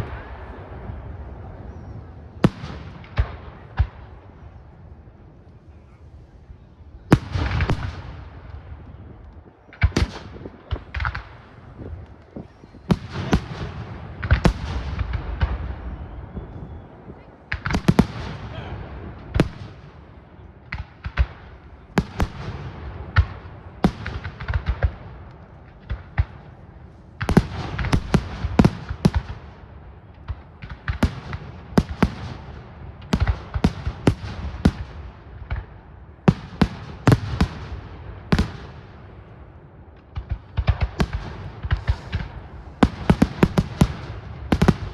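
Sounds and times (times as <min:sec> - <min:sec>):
fireworks bangs and crackling: 0:00.0 - 0:04.7, 0:07.0 - 0:44.9.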